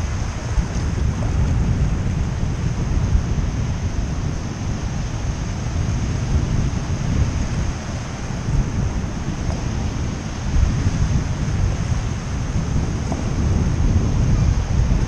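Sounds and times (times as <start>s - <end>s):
small surf waves washing: 0.0s - 15.0s
wind buffeting microphone: 0.0s - 15.0s.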